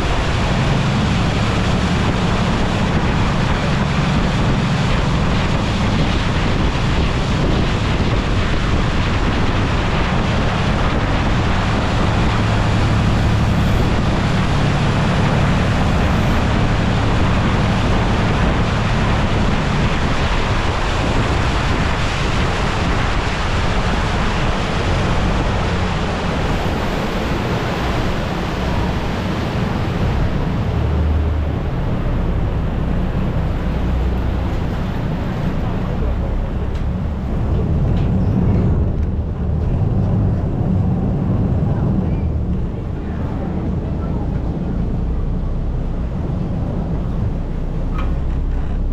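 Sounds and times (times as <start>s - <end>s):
boat diesel engine droning: 0.0s - 48.9s
rushing water: 0.0s - 48.9s
wind buffeting microphone: 0.0s - 48.9s.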